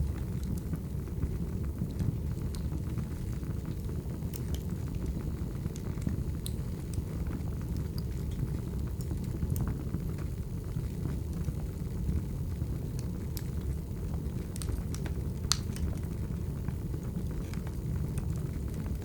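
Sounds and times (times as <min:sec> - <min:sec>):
fire rumbling: 0:00.0 - 0:19.0
firewood crackling and popping: 0:00.0 - 0:19.0.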